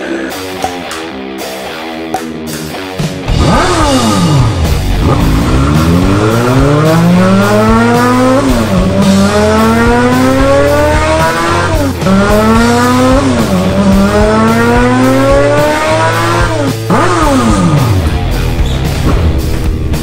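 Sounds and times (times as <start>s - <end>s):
sportbike engine accelerating: 3.2s - 20.0s.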